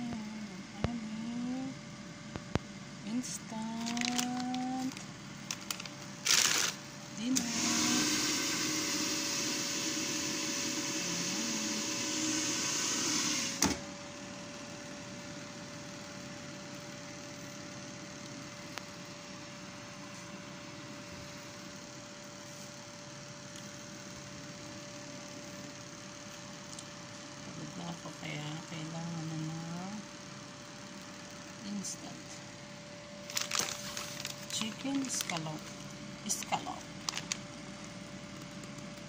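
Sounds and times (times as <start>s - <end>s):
air fryer fan humming: 0.0s - 39.0s.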